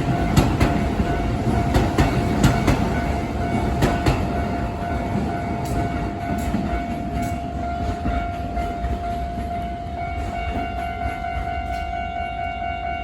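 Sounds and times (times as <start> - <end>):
electric train running over rail joints: 0.0 - 13.0
level crossing alarm ringing: 0.0 - 13.0.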